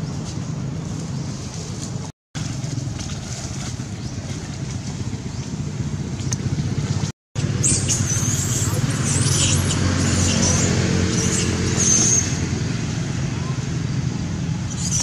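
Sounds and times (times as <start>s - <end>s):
background traffic rumble: 0.0s - 15.0s.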